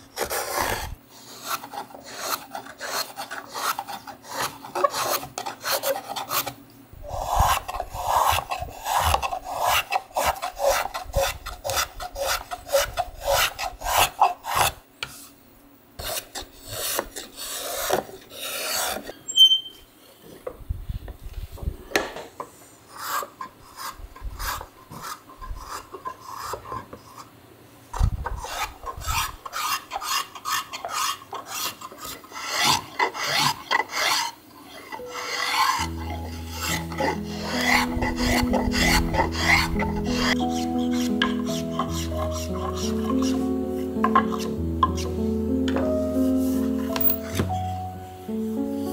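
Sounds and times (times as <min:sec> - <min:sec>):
hand tools scraping wood: 0:00.0 - 0:15.2, 0:16.0 - 0:19.2, 0:22.9 - 0:27.3, 0:28.4 - 0:47.8
spokeshave working wood: 0:00.0 - 0:15.2, 0:16.0 - 0:19.1, 0:22.9 - 0:27.3, 0:28.4 - 0:48.9.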